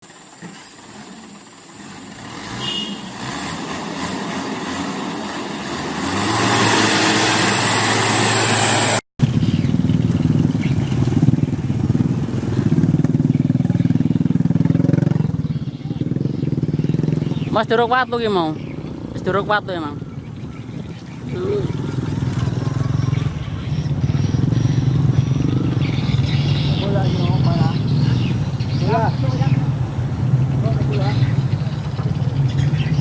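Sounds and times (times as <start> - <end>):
truck engine labouring: 0.0 - 33.0.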